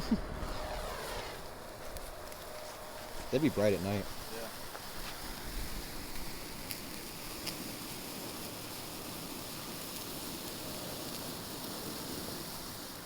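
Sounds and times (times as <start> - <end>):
faint crackles: 0.0 - 13.0
sparklers fizzing hiss: 0.0 - 13.0.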